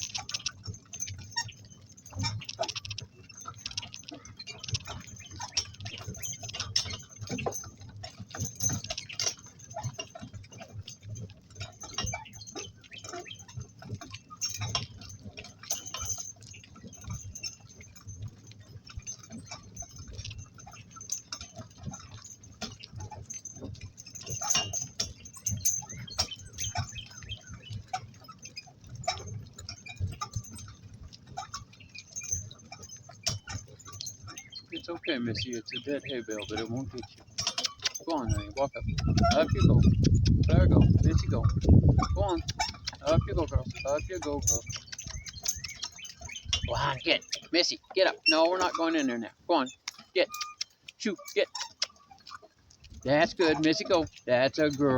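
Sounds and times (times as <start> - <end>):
harness hardware clinking and rattling: 0.0 - 54.9.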